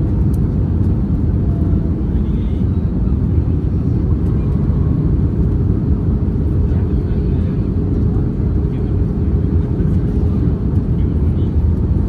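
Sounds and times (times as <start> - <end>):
airplane cabin rumble: 0.0 - 12.0
jet engines and airflow: 0.0 - 12.0.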